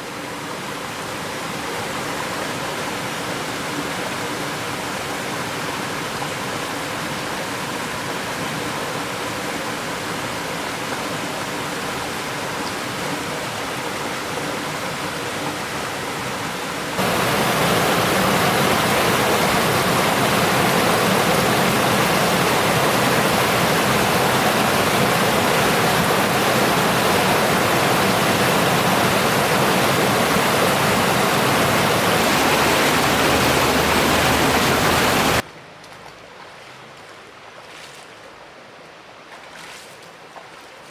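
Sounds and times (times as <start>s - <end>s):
flowing river water: 0.0s - 40.9s.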